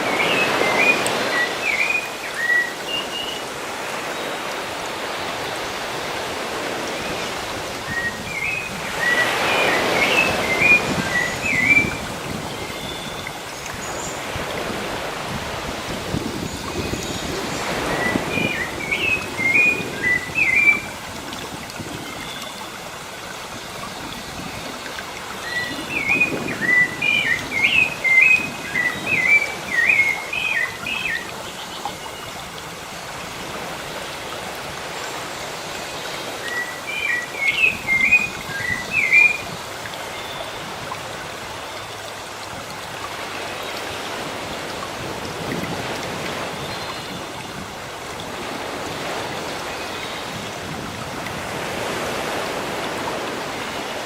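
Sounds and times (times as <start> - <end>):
sea surf: 0.0 - 31.6, 32.6 - 54.0.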